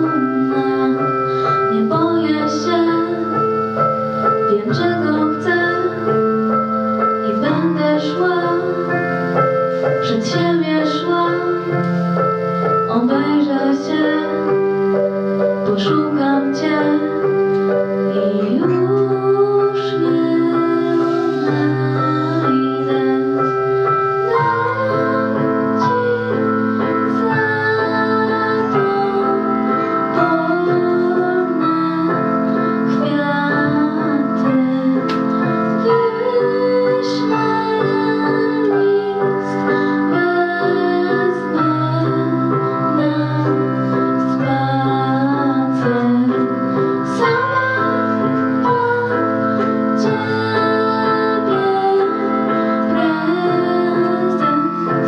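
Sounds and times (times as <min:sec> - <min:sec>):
girl singing: 0:00.0 - 0:03.5, 0:04.5 - 0:06.3, 0:07.3 - 0:09.2, 0:10.0 - 0:11.8, 0:12.9 - 0:14.5, 0:15.6 - 0:17.3, 0:18.1 - 0:55.0
keyboard accompaniment: 0:00.0 - 0:55.0.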